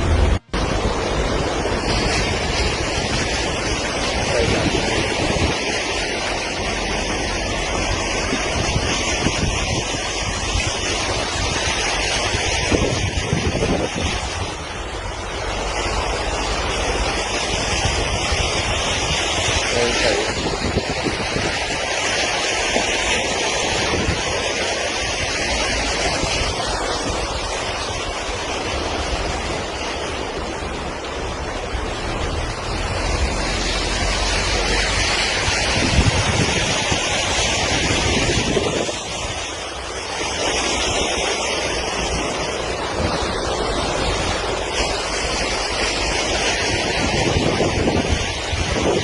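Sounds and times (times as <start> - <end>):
floodwater rushing: 0.0 - 49.0
wind buffeting microphone: 0.0 - 49.0.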